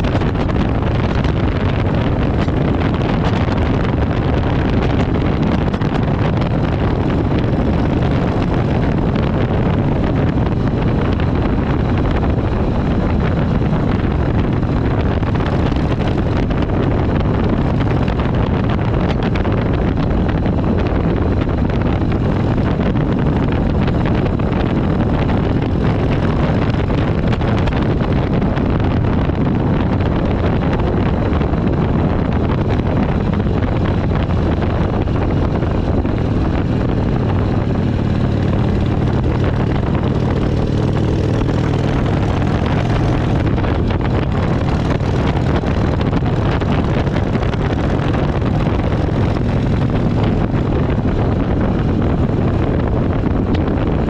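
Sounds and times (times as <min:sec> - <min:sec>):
motorcycle engine cruising: 0:00.0 - 0:54.0
wind buffeting microphone: 0:00.0 - 0:54.0.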